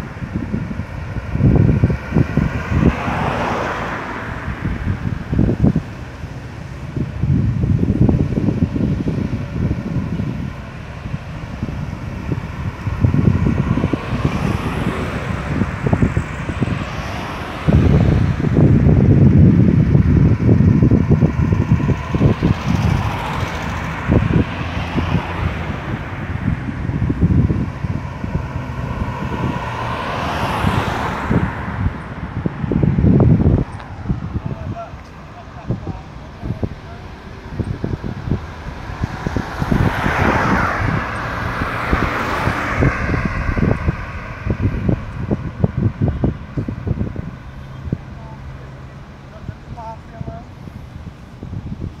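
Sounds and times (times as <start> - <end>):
wind buffeting microphone: 0.0 - 52.0
car driving past: 1.4 - 7.0, 9.6 - 49.5.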